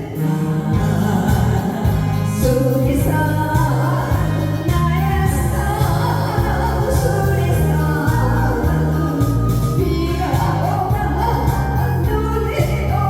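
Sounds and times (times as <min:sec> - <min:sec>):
person singing over backing track: 0:00.0 - 0:13.0
bouncing bass line: 0:00.8 - 0:13.0.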